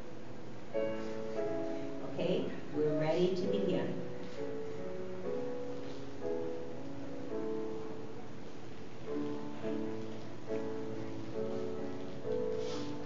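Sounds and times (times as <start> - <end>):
slow gentle instrumental music: 0.0 - 13.0.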